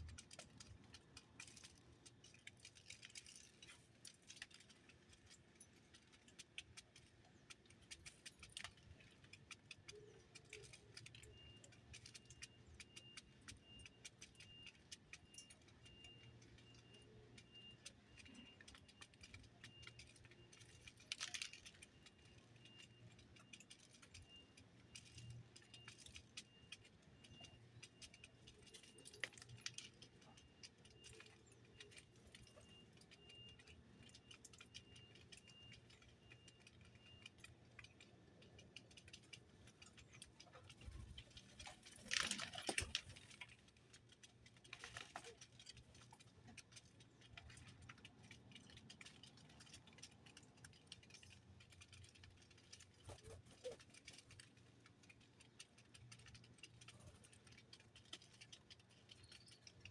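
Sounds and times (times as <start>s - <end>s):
faint small clicks and rattles: 0.0s - 59.9s.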